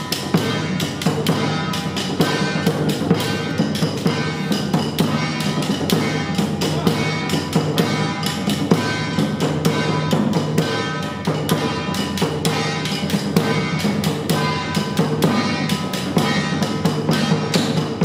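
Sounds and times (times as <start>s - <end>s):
drums and metal percussion: 0.0s - 18.0s.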